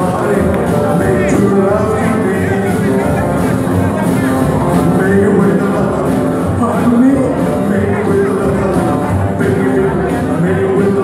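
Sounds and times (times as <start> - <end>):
acoustic guitar: 0.0 - 11.0
drums: 0.0 - 11.0
upright bass: 0.0 - 11.0.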